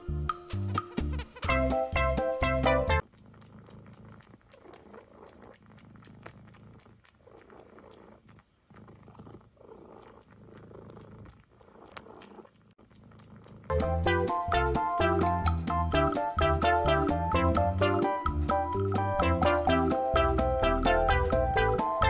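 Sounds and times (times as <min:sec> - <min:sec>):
cat purring: 0:02.7 - 0:22.0.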